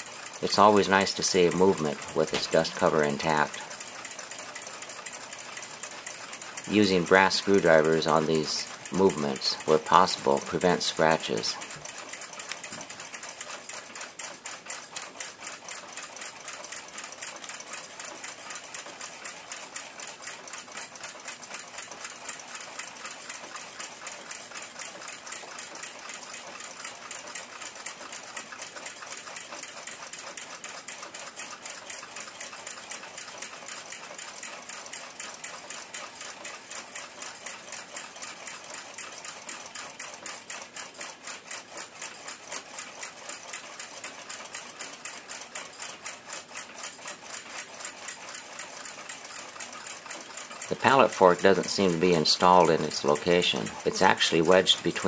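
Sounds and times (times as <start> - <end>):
clock ticking: 0.0 - 55.0.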